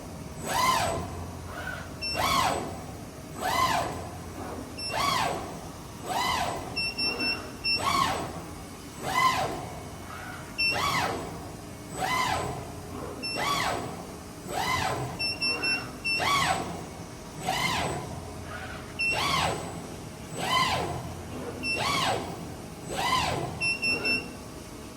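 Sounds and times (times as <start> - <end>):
servo motor whine: 0.4 - 24.4.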